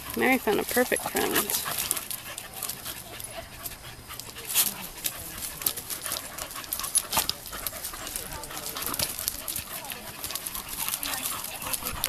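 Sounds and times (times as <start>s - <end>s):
dogs panting: 0.0s - 12.0s
dogs scuffling on wood chips: 0.0s - 12.0s.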